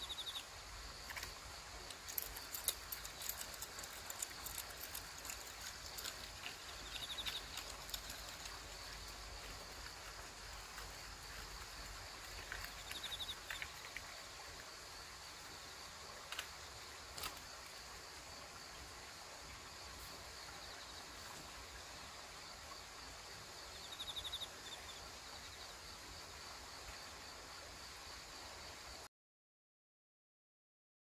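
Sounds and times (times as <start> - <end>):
insects chirping in grass: 0.0 - 29.1.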